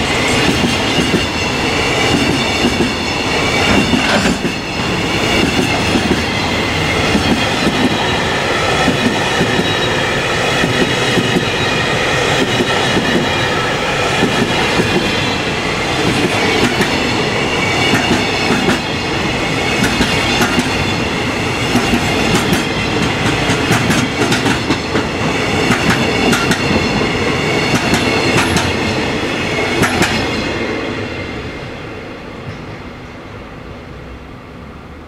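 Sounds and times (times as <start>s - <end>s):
train wheels clacking on rails: 0.0s - 31.0s.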